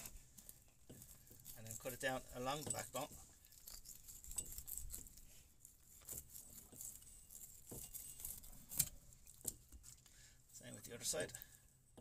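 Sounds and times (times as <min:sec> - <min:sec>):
knife cutting fish on a board: 0:00.0 - 0:09.9.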